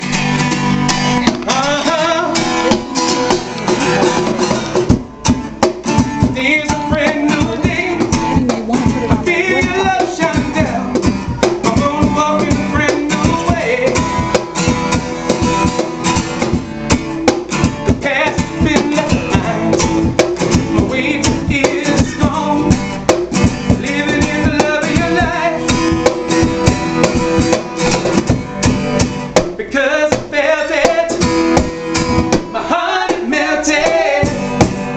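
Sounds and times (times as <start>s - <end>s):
acoustic guitar strumming: 0.0s - 34.9s
cajon beat: 0.0s - 34.9s.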